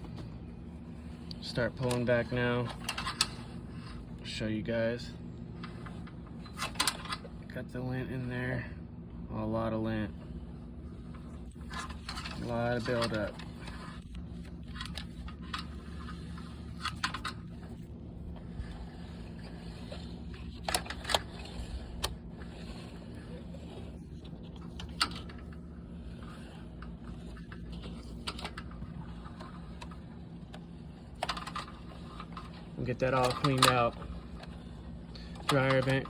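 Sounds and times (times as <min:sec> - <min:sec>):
cable clicking and scraping: 0:00.0 - 0:04.3, 0:05.0 - 0:07.5, 0:10.1 - 0:36.0
steady low hum: 0:00.0 - 0:36.0.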